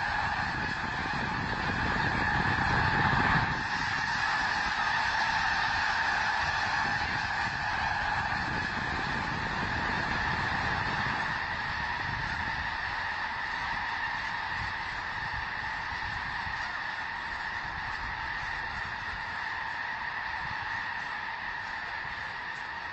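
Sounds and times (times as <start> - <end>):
flock of birds calling: 0.0 - 22.9.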